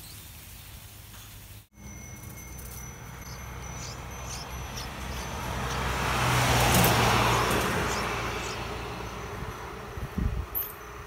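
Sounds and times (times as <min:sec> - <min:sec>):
vehicle driving past: 0:01.8 - 0:11.0.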